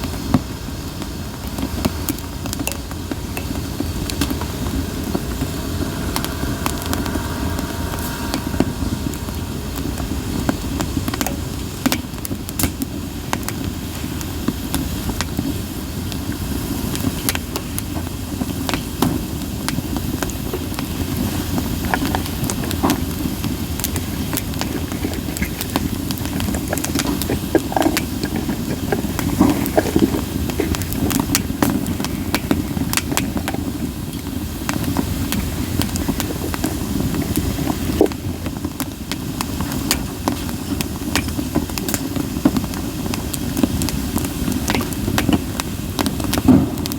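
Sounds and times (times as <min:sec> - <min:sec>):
fire crackles and pops: 0:00.0 - 0:46.9
low rumble of flame: 0:00.0 - 0:46.9.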